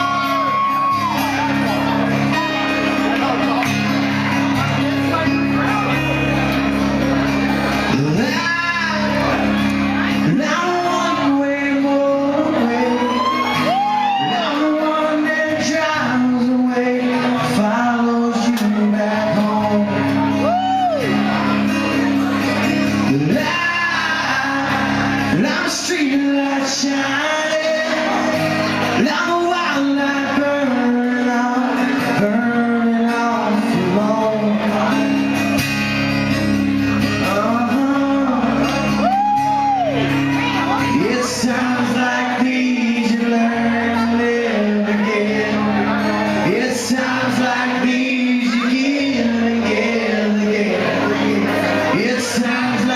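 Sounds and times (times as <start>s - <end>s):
live instruments playing: 0.0s - 52.9s
man singing: 7.7s - 35.6s, 36.8s - 52.9s.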